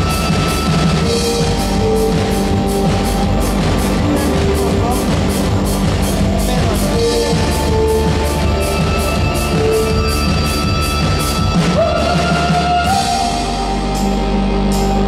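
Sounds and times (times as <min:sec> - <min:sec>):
drum kit cymbal beat: 0:00.0 - 0:15.0
guitars and bass: 0:00.0 - 0:15.0
held melodic notes: 0:00.0 - 0:15.0.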